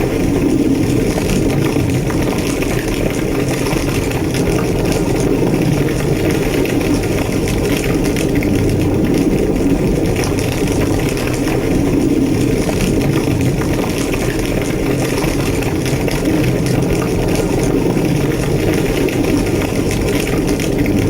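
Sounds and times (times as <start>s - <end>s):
large fire roaring and crackling: 0.0s - 21.0s.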